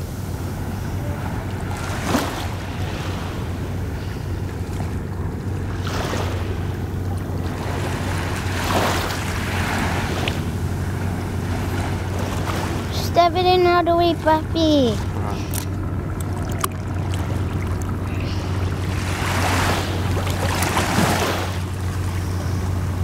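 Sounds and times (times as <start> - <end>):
rushing water: 0.0 - 23.0
surf washing at shoreline: 0.0 - 23.0
wind rumbling on microphone: 0.0 - 23.0.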